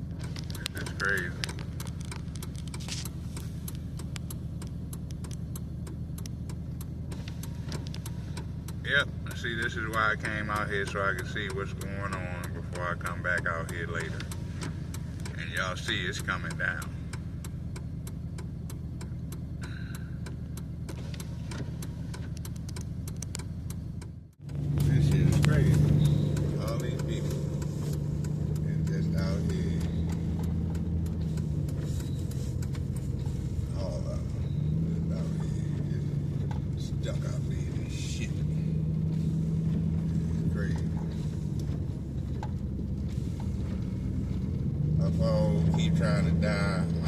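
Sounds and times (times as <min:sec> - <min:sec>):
short irregular ticks and clicks: 0:00.0 - 0:47.0
vehicle idling hum: 0:00.0 - 0:47.0.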